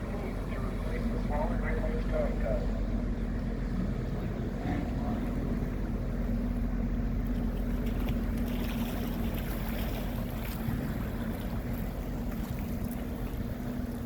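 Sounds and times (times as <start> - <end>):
boat engine droning: 0.0 - 14.0
wind buffeting microphone: 0.0 - 14.0.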